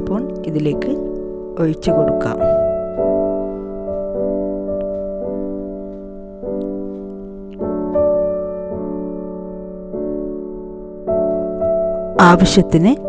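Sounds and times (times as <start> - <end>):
soft keyboard chords: 0.0 - 13.0.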